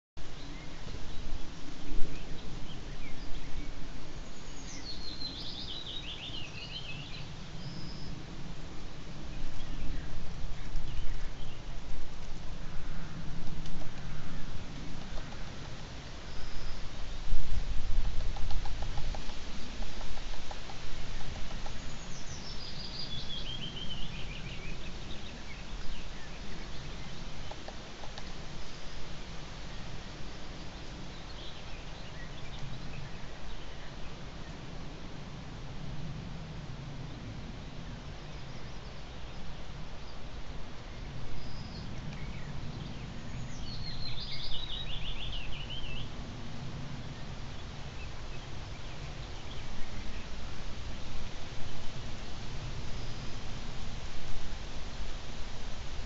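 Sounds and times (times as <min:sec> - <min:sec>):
low outdoor rumble: 0:00.2 - 0:56.0.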